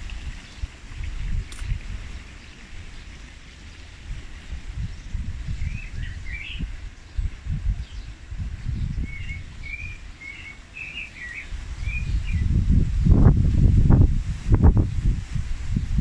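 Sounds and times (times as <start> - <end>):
wind rumble on microphone: 0.0 - 10.2, 11.2 - 16.0.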